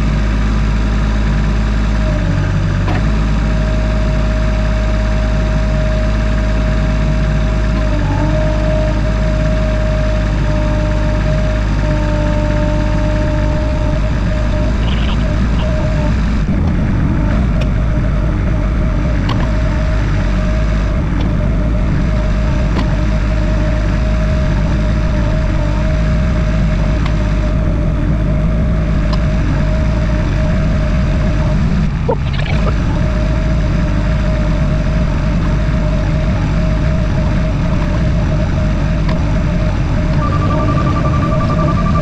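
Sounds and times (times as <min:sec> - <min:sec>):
motor running with whine: 0:00.0 - 0:42.0.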